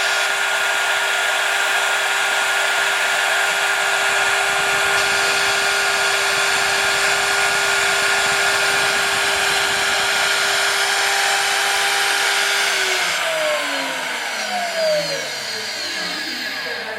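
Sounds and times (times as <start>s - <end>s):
spindle motor whining: 0.0s - 16.9s.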